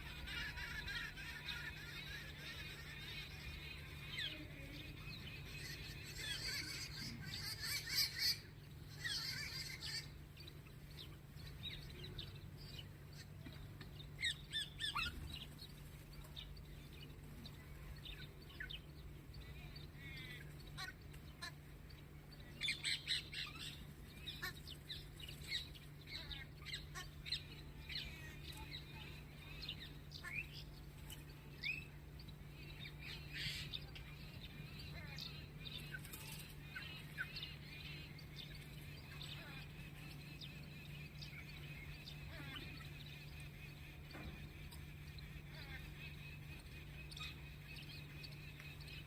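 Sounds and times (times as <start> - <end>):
small birds chirping: 0.0 - 49.0
steady low hum: 0.0 - 49.0.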